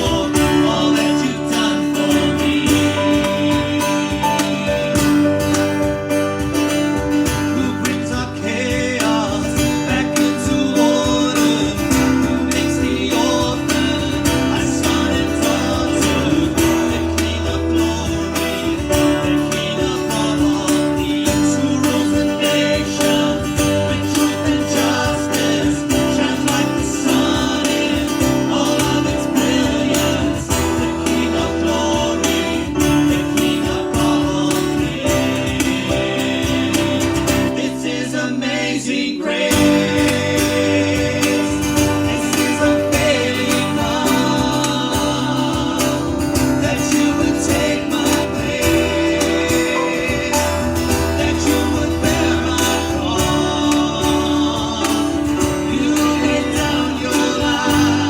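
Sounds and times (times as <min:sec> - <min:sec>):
person singing: 0:00.0 - 0:58.0
strummed acoustic guitar: 0:00.0 - 0:58.0.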